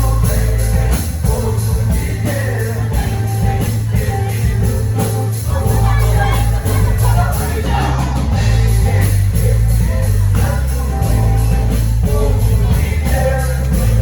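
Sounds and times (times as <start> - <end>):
drums steady beat: 0.0 - 14.0
heavy bass line: 0.0 - 14.0
voices singing: 0.0 - 14.0.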